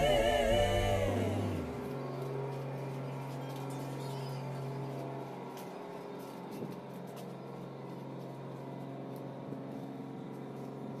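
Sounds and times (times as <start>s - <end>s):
ship machinery drone: 0.0s - 11.0s.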